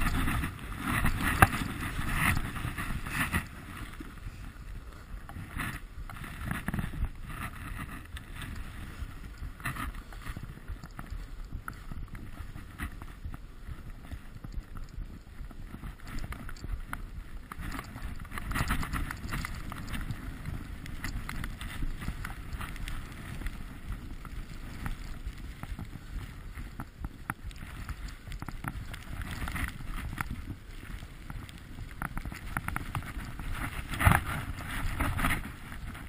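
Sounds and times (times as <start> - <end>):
skis scraping over snow: 0.0 - 36.0
wind rumbling on microphone: 0.0 - 36.0.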